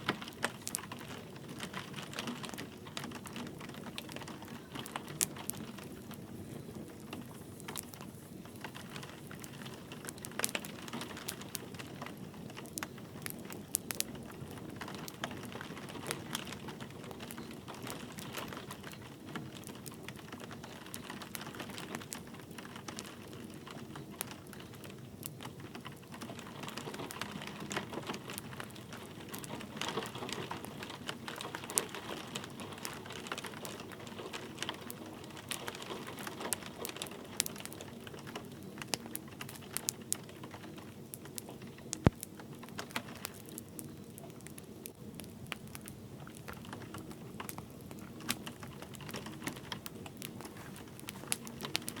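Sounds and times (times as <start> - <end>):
light rain pattering: 0.0 - 52.0
wood fire crackling: 0.0 - 52.0.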